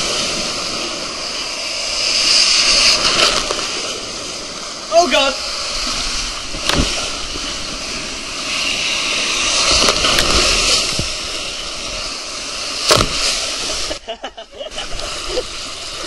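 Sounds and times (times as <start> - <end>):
water rushing down a slide: 0.0 - 16.0.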